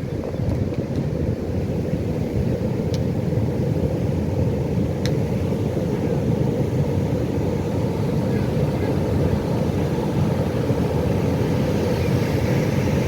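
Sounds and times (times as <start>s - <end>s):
ocean surf rumble: 0.0s - 13.0s.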